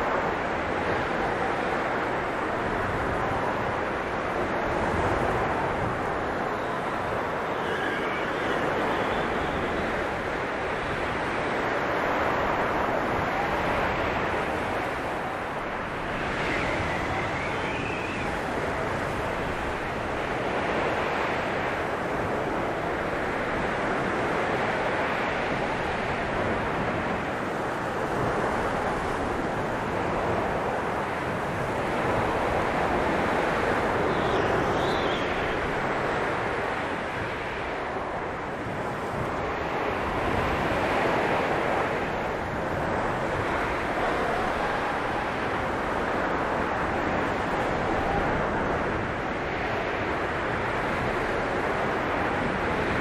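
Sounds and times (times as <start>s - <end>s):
blizzard wind blowing: 0.0s - 53.0s.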